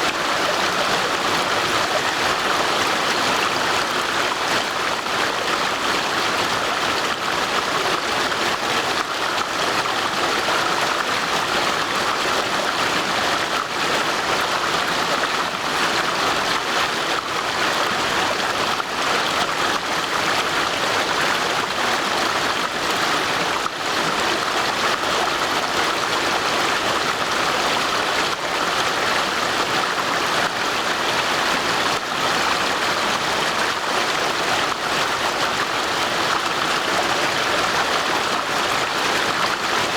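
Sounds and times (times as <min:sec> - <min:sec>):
brook water rushing: 0:00.0 - 0:39.9.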